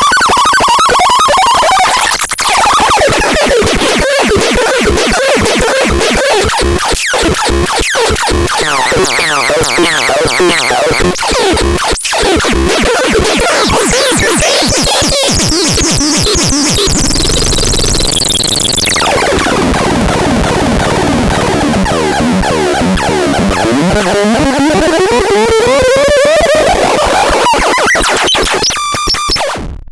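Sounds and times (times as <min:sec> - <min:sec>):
harsh electronic noise synthesizer: 0:00.0 - 0:29.8.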